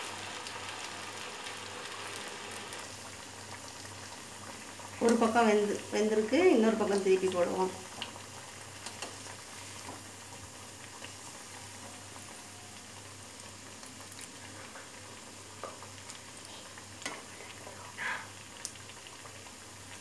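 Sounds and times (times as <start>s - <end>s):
food deep-frying in oil: 0.0s - 20.0s.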